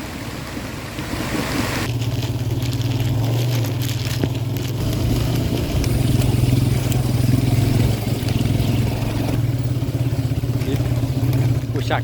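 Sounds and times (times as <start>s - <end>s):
motorcycle engine running: 1.8s - 12.0s.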